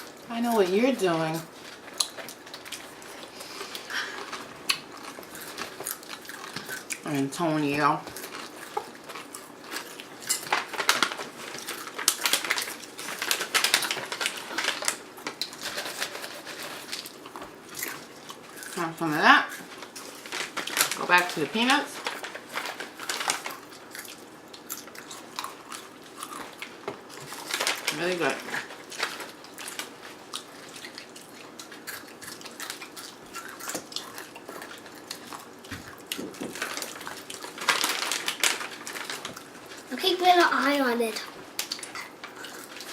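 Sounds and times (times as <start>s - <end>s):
crunching snacks being eaten: 1.6s - 7.0s, 8.1s - 18.8s, 19.5s - 39.9s, 41.6s - 42.9s.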